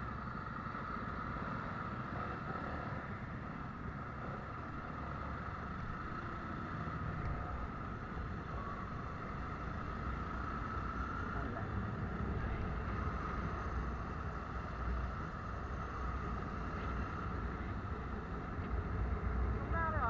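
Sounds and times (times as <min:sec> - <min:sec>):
faint wavering whine: 0:00.0 - 0:20.0
vehicle engine and road rumble: 0:00.0 - 0:20.0.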